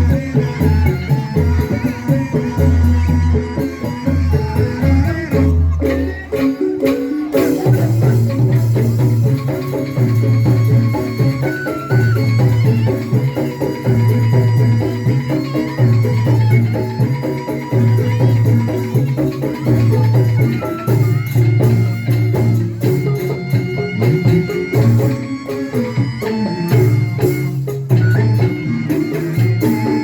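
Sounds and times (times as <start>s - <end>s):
shaker-like percussion: 0.0s - 30.0s.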